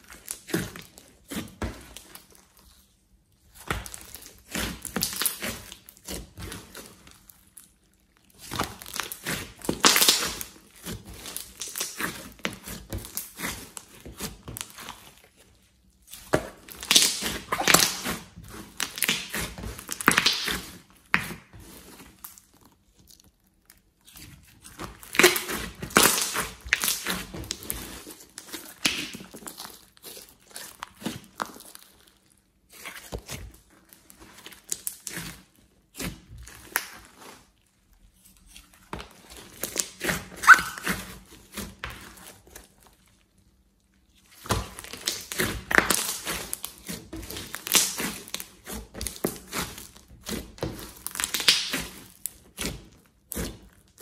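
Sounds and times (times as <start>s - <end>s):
slime squelching and popping: 0.0s - 54.0s.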